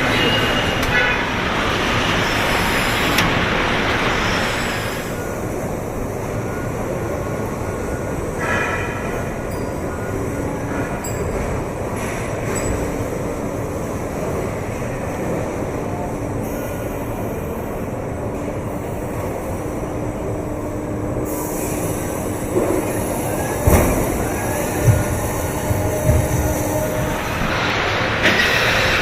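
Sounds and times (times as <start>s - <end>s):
factory mechanical rumble: 0.0s - 29.0s.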